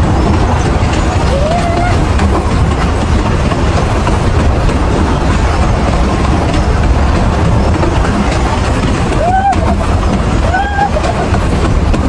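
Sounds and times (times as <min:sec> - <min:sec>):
fairground ride rumbling: 0:00.0 - 0:12.0
wind buffeting microphone: 0:00.0 - 0:12.0.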